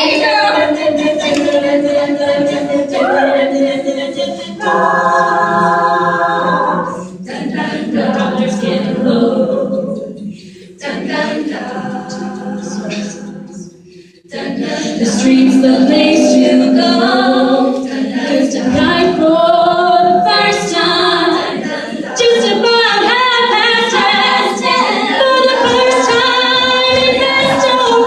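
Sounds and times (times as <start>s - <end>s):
a cappella group singing: 0.0s - 28.0s.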